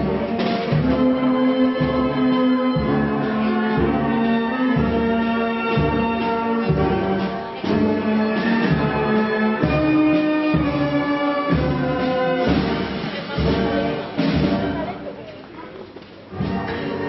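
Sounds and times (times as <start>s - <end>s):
brass band playing slow march: 0.0s - 15.2s, 16.2s - 17.0s.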